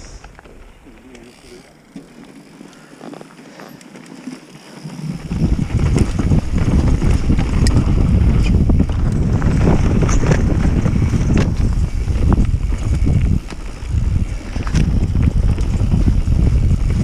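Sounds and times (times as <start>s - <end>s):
wind buffeting microphone: 0.0s - 1.7s, 5.0s - 17.0s
bike clicks and rattles: 0.0s - 17.0s
bike tyres rumbling on dirt: 0.0s - 17.0s.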